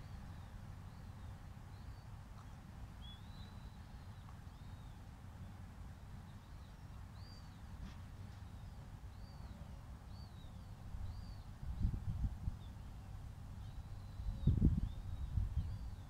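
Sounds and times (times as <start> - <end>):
low steady rumble: 0.0 - 16.0
small birds chirping: 0.0 - 16.0.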